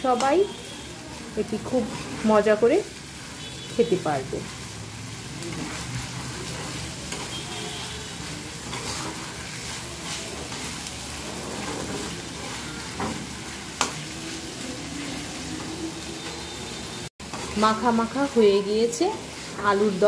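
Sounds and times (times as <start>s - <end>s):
curry sizzling: 0.0s - 20.0s
metal spatula stirring and scraping: 1.5s - 2.6s, 3.2s - 14.5s, 15.1s - 20.0s.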